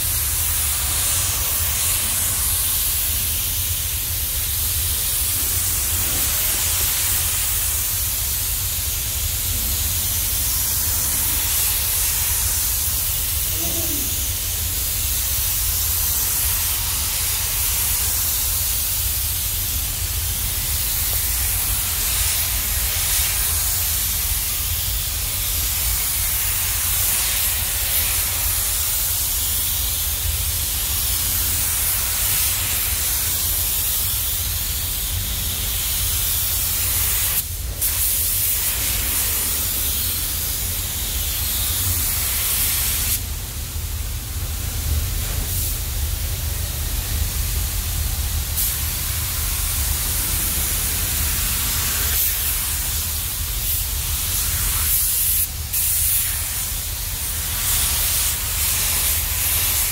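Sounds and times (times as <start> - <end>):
paint spray gun hissing: 0.0 - 43.2, 44.7 - 45.9, 46.9 - 59.9.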